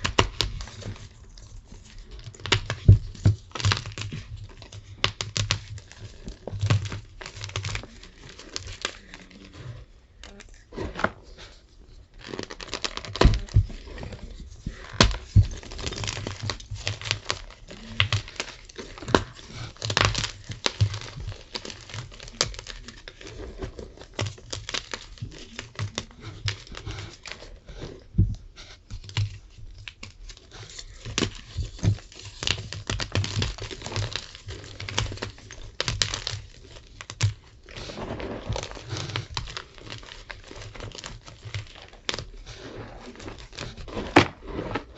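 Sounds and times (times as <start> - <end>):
chalk crunching and crumbling: 0.0 - 44.9.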